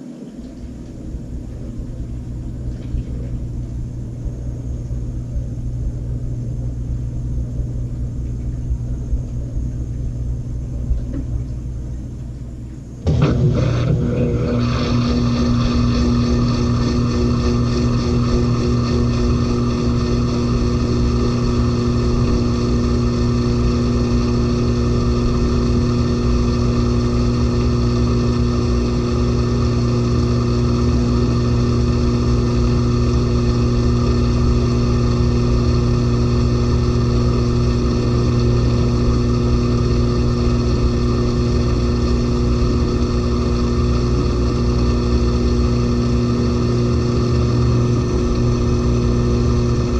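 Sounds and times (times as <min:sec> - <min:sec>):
washing machine spinning: 0:00.0 - 0:49.9.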